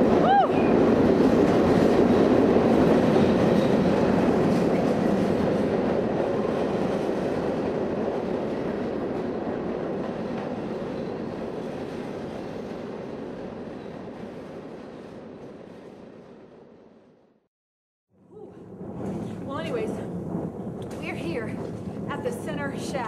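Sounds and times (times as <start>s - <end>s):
train moving through tunnel: 0.0s - 17.5s, 18.2s - 23.0s.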